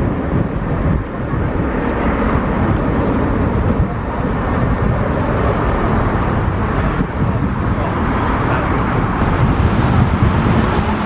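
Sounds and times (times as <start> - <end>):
jet airliner engine noise: 0.0 - 11.0.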